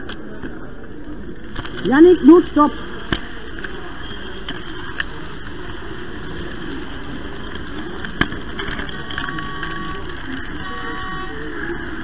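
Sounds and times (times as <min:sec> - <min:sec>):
model train rolling rumble: 0:00.0 - 0:12.0
sharp track clicks: 0:01.4 - 0:12.0.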